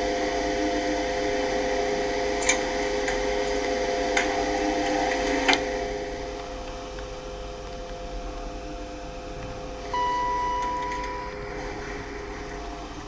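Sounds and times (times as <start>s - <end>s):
lift car humming: 0.0s - 13.0s.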